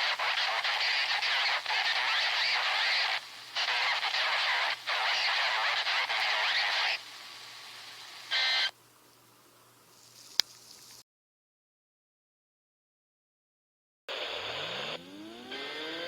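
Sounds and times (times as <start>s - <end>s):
radio static hiss: 0.0s - 11.0s, 14.1s - 16.0s.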